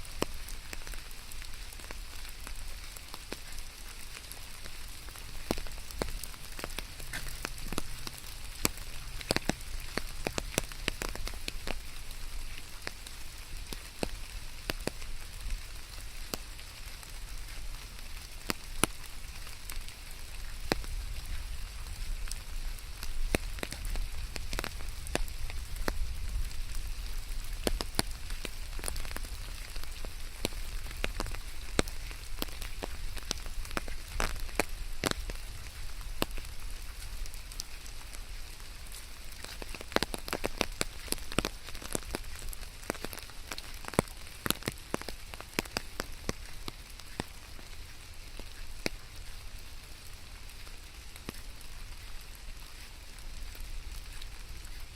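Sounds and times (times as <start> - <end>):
rain drops pattering: 0.0 - 54.9.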